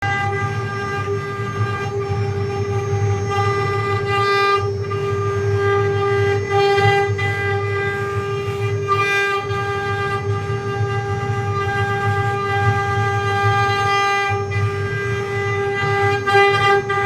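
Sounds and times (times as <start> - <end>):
low hum: 0.0 - 17.0
router spindle whine: 0.0 - 17.0.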